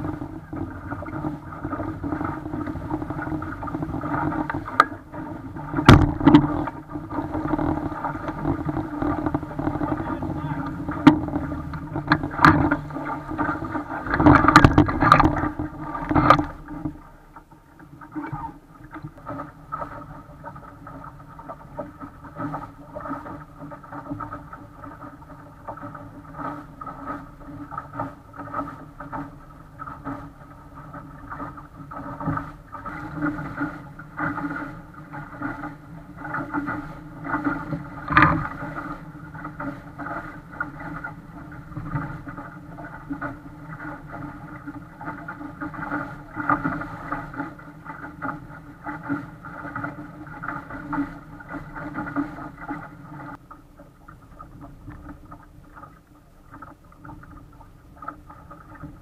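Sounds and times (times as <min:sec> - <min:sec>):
water splashing against hull: 0:00.0 - 0:59.0.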